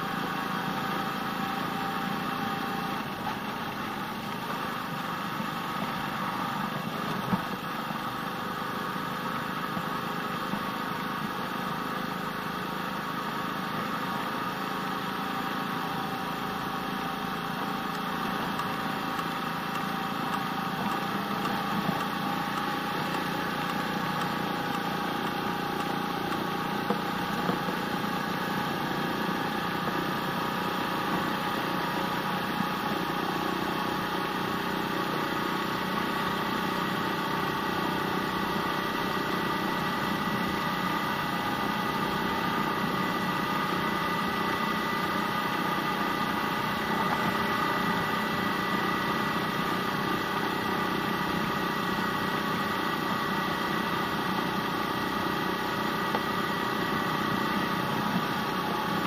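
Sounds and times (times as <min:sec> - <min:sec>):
small motorbike engine running: 0:00.0 - 0:59.0.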